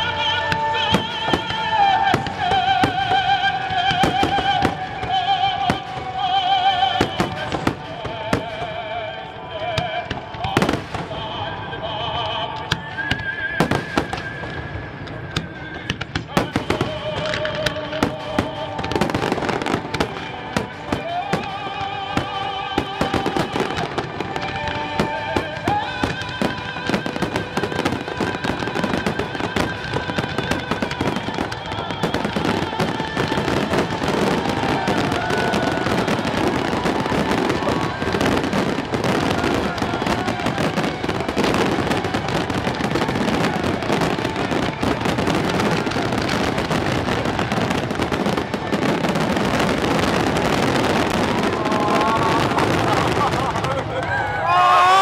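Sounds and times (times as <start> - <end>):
crowd voices: 0.0 - 55.0
fireworks bursting and crackling: 0.0 - 55.0
orchestral music: 0.0 - 55.0.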